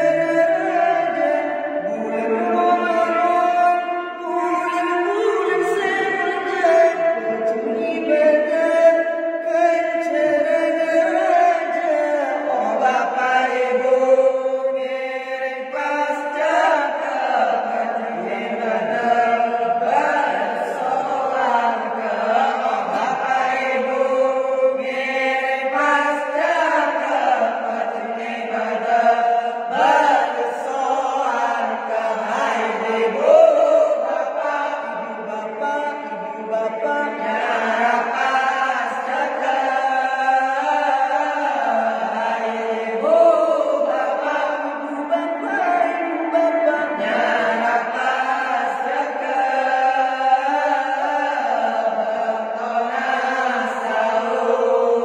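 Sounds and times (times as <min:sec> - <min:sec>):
man singing into a microphone: 0:00.0 - 0:55.0
men chanting devotional song: 0:00.0 - 0:55.0.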